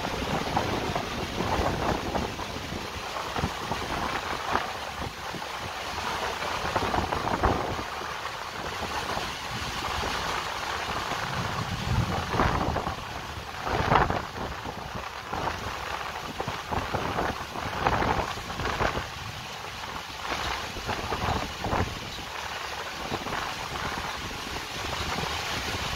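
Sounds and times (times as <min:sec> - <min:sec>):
heavy rain pouring: 0:00.0 - 0:25.9
wind buffeting microphone: 0:00.0 - 0:25.9.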